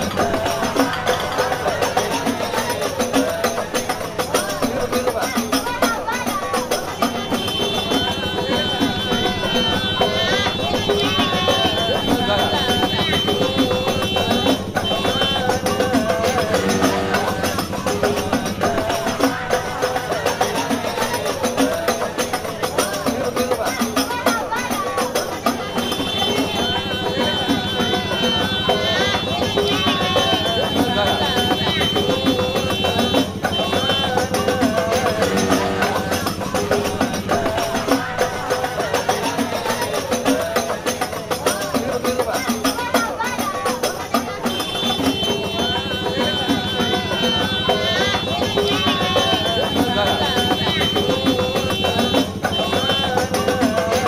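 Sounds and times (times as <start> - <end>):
quick percussion: 0.0 - 54.0.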